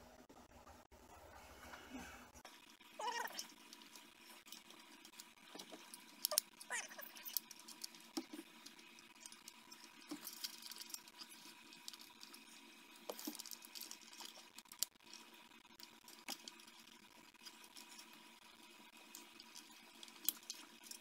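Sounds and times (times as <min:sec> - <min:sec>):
plastic parts clicking and rattling: 0:03.0 - 0:21.0.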